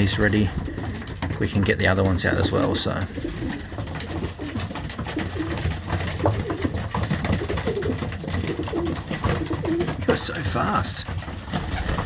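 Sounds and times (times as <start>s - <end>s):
birds clicking and scuffling: 0.0s - 12.0s
pigeons cooing: 0.0s - 12.0s.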